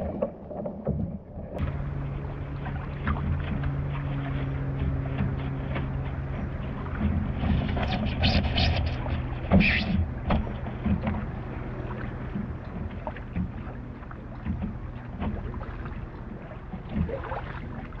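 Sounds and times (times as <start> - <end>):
low steady rumble: 0.0 - 18.0
water splashing and sloshing: 0.0 - 18.0.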